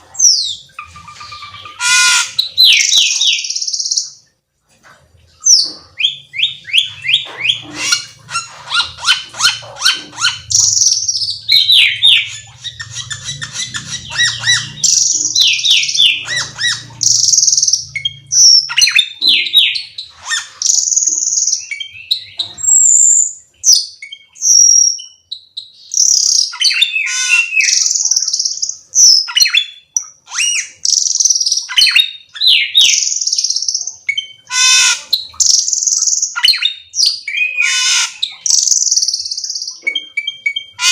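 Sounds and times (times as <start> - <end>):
songbird singing: 0.0 - 4.3, 5.4 - 40.9.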